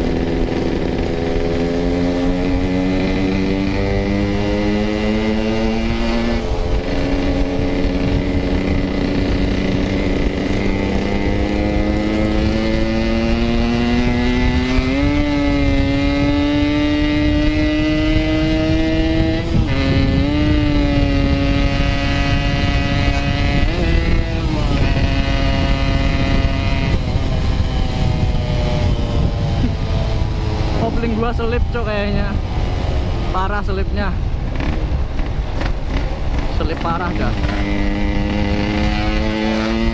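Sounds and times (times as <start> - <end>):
two-stroke motorcycle engine running: 0.0 - 39.9
wind rushing: 0.0 - 39.9.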